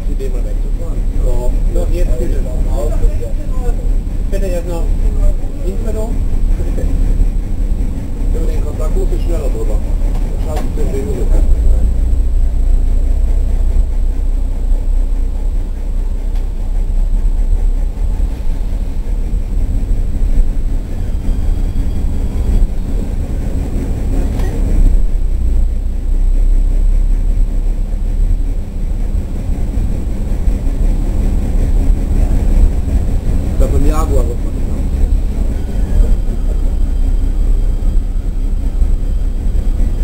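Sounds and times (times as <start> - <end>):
train engine rumbling: 0.0 - 40.0.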